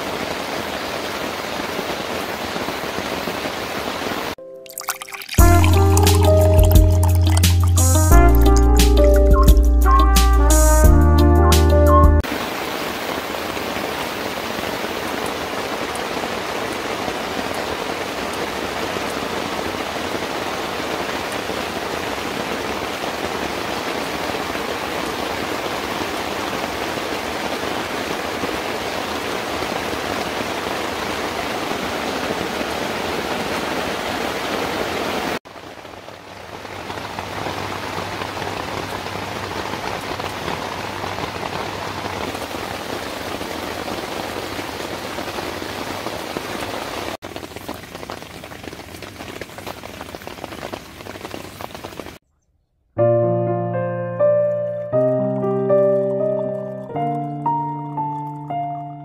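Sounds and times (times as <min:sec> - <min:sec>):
heavy rain on a tent: 0:00.0 - 0:10.8, 0:12.2 - 0:52.2.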